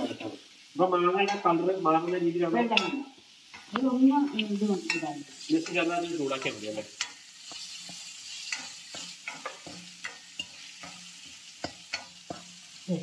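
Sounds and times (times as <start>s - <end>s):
food sizzling in a pan: 0.0s - 13.0s
spoon scraping a pan: 1.2s - 12.9s.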